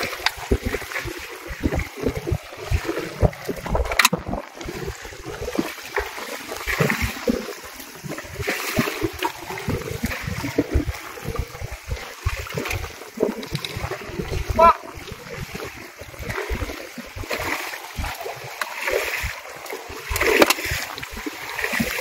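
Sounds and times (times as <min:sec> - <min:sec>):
waves slapping against boat hull: 0:00.0 - 0:22.0.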